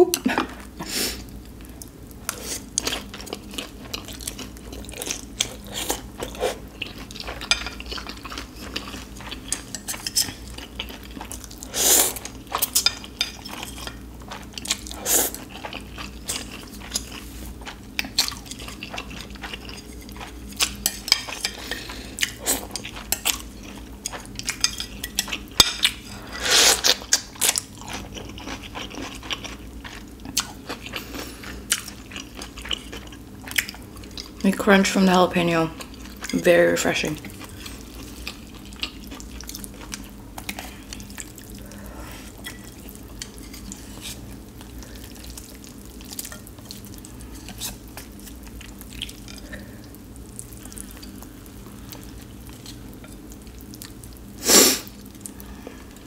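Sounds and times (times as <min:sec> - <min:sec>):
chewing and crunching: 0:01.7 - 0:34.5, 0:35.7 - 0:54.2.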